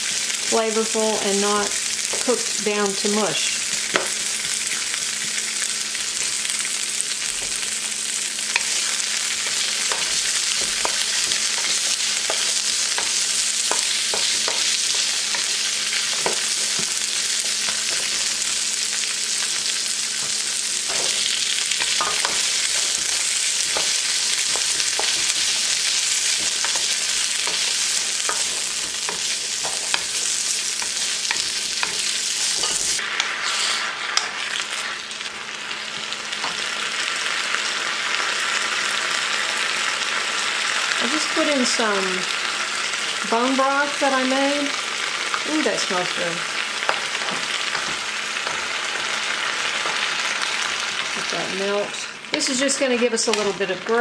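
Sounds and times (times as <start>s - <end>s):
vegetables sizzling in a wok: 0.0s - 54.0s.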